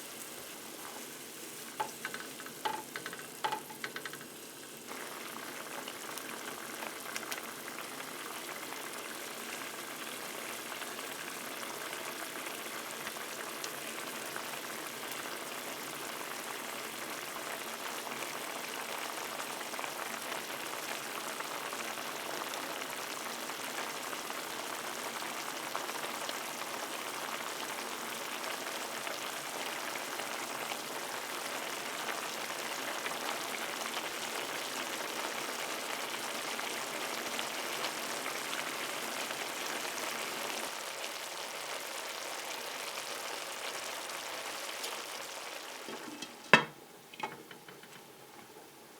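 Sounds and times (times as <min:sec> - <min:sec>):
fish sizzling in hot oil: 0:00.0 - 0:48.1.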